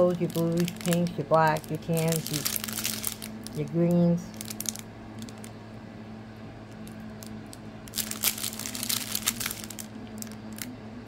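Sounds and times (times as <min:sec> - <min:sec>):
plastic bags crinkling: 0:00.0 - 0:05.5, 0:06.7 - 0:10.8
steady low hum: 0:00.0 - 0:11.0.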